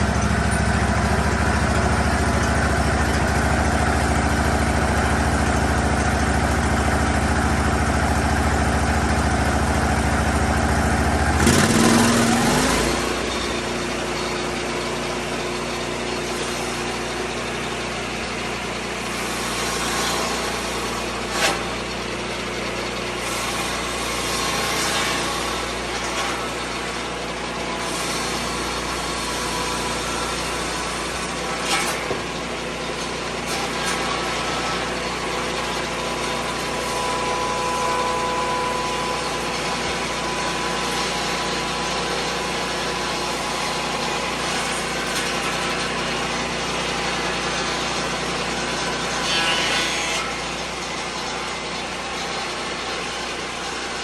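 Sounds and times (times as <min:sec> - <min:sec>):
circular saw blade cutting wood: 0:00.0 - 0:54.0
sawmill engine running under load: 0:00.0 - 0:54.0.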